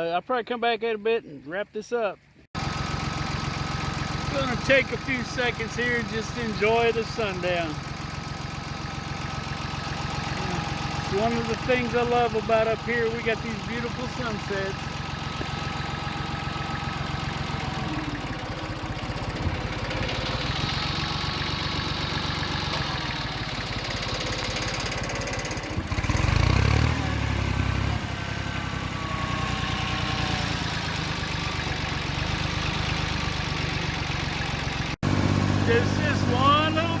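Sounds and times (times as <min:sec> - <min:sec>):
tractor engine running: 0:02.6 - 0:37.0.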